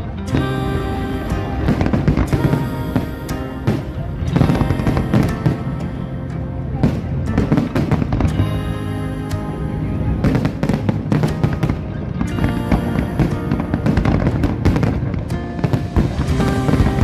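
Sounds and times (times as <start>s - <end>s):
loud music soundtrack: 0.0s - 17.0s.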